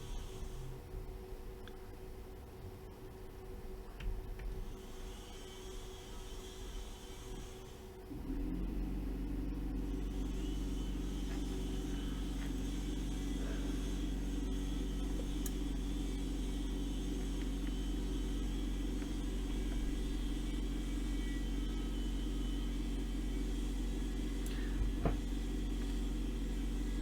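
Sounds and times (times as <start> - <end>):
low electrical hum with buzz: 0.0 - 27.0.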